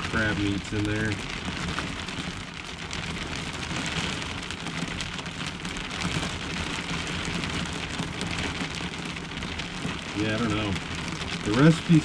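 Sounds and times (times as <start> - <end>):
heavy rain on a camper shell: 0.0 - 12.0.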